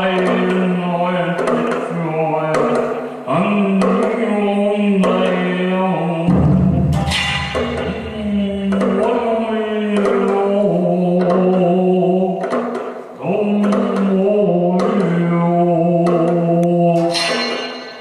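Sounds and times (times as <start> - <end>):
man chanting long steady tones: 0.0 - 6.4, 7.0 - 12.4, 13.2 - 17.5.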